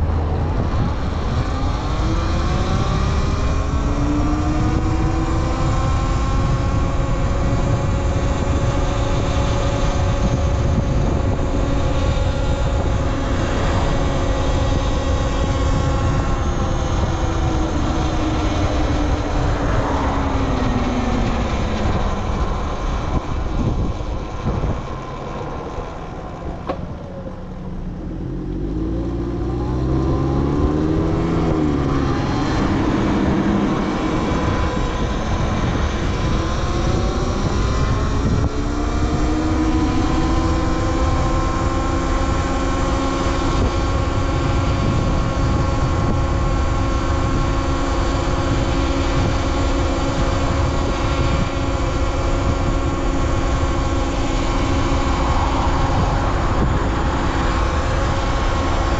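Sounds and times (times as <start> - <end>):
electric motor whine: 0.2 - 58.9
rushing noise: 8.2 - 58.9.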